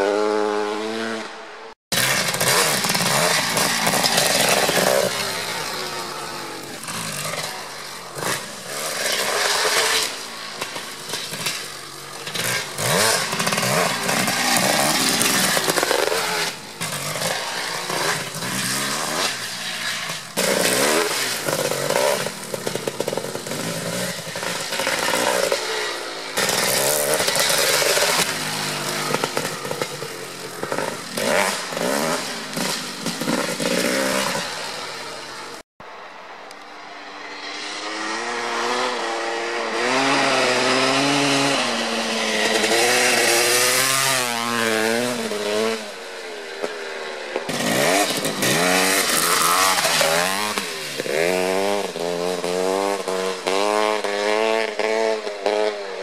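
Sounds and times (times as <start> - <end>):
dirt bike engine revving: 0.0 - 35.6, 37.6 - 56.0.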